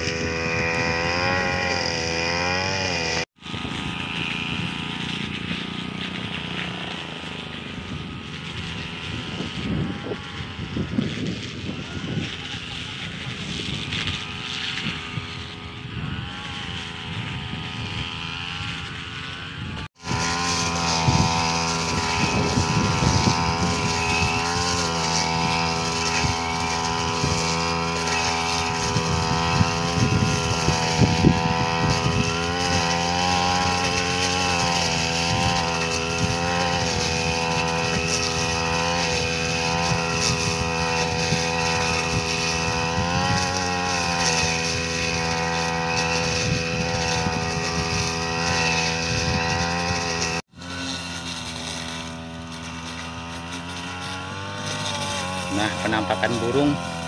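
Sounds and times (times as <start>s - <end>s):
brush cutter engine cutting stalks: 0.0s - 57.0s.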